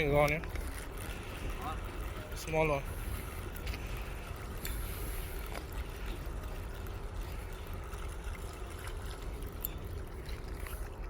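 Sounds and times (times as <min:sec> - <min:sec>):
water lapping: 0:00.0 - 0:11.0.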